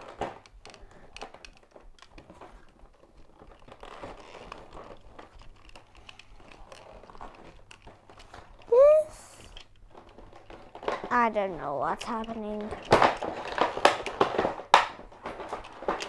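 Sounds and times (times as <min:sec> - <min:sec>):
plastic parts clicking: 0:00.0 - 0:08.7, 0:09.4 - 0:16.0
packaging and paper crinkling: 0:00.0 - 0:16.0.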